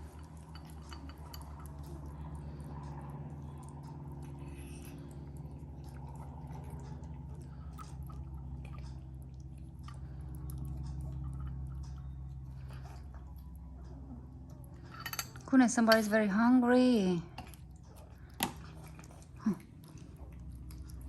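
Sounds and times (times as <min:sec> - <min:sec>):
kittens chewing and smacking: 0:00.0 - 0:15.5, 0:17.2 - 0:21.0
steady low hum: 0:00.0 - 0:21.0.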